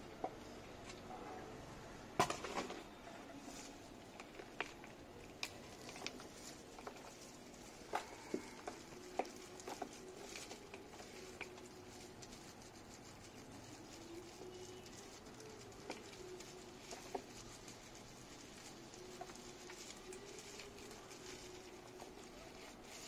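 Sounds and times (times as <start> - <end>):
soil pattering: 3.6 - 23.0.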